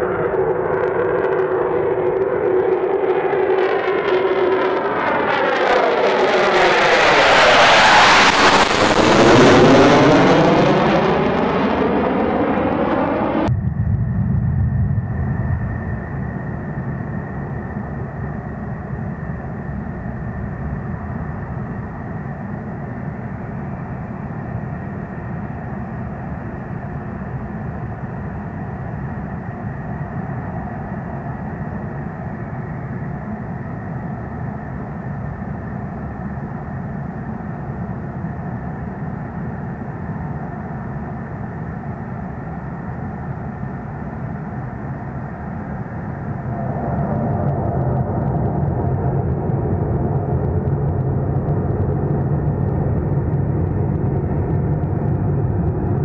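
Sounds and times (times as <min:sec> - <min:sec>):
jet engines rumbling with whine: 0:00.0 - 0:56.0.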